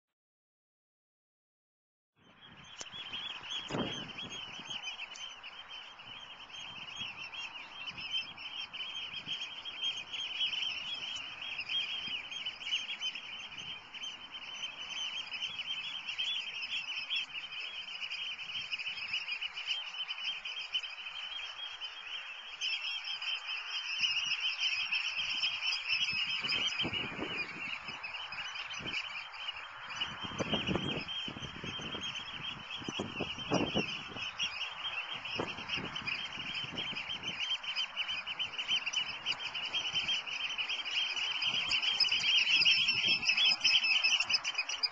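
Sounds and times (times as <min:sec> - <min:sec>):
oystercatchers piping: 0:02.2 - 0:44.9.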